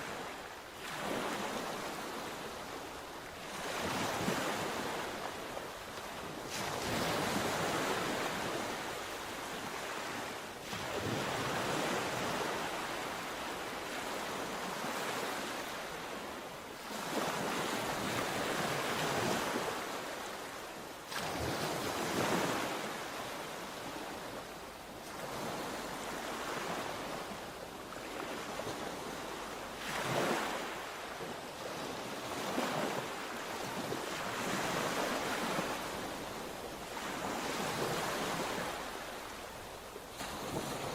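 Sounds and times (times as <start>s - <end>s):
sea waves washing onto shore: 0.0s - 40.9s.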